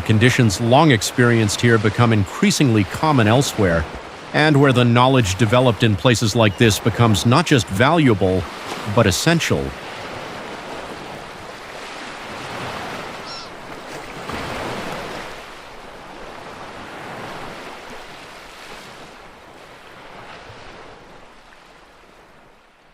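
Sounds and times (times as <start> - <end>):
sea waves washing in: 0.0 - 22.9.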